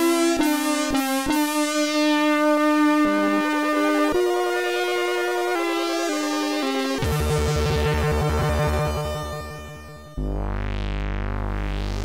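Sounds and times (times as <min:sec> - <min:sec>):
held synthesizer chords: 0:00.0 - 0:12.0.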